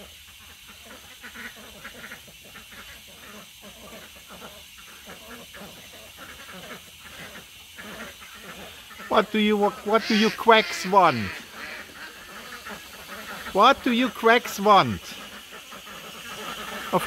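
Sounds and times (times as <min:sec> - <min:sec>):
distant ducks quacking: 0:00.0 - 0:17.0.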